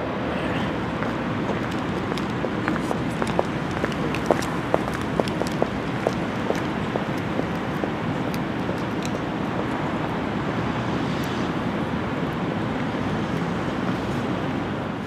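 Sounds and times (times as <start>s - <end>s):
outdoor rushing noise: 0.0s - 15.0s.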